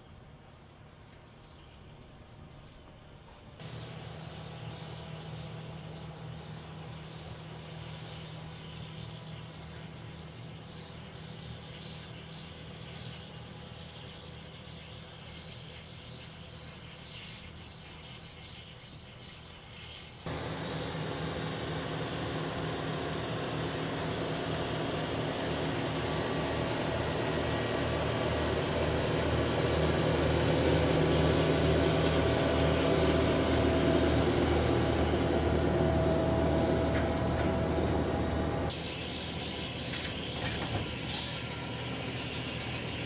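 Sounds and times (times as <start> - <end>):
tractor engine running: 0.2 - 14.3, 20.3 - 43.0.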